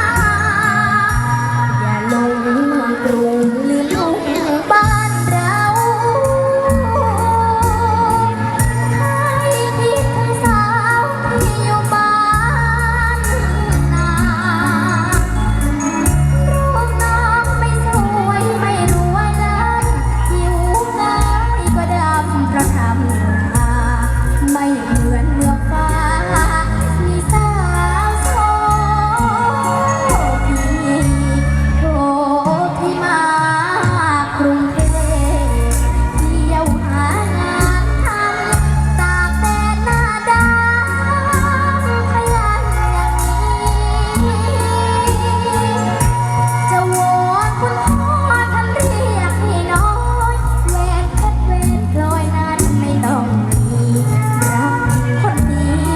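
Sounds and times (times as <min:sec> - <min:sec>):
band with heavy bass and drums: 0:00.0 - 0:55.9
girl singing with vibrato: 0:00.0 - 0:55.9.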